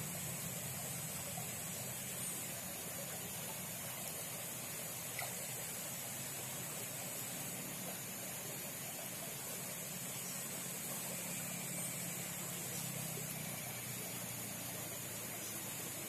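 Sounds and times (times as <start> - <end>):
even hiss: 0.0 - 16.0
faint low hum: 0.0 - 16.0
thin high steady tone: 0.0 - 16.0.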